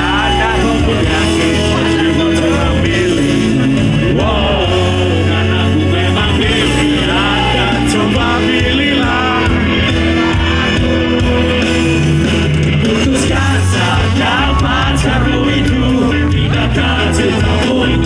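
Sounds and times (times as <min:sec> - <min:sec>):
people singing along: 0:00.0 - 0:11.8, 0:12.6 - 0:18.0
pop-rock band playing: 0:00.0 - 0:18.0.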